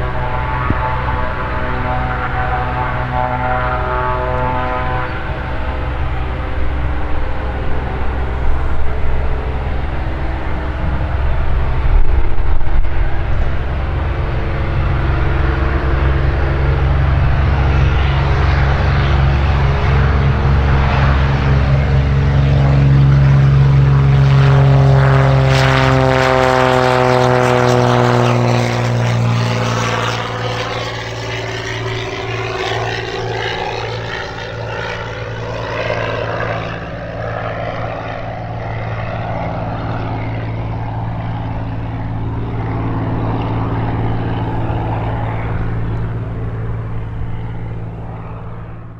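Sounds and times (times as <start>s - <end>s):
aircraft engine and propeller: 0.0s - 48.9s.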